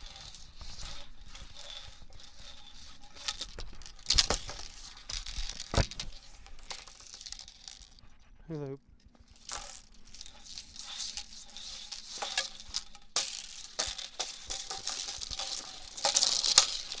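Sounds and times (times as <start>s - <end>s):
hula hoop swishing and rattling: 0.0s - 8.2s, 9.0s - 17.0s.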